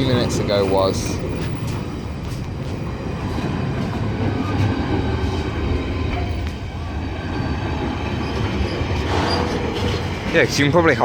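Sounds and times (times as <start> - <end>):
freight train wagons rolling: 0.0 - 11.0.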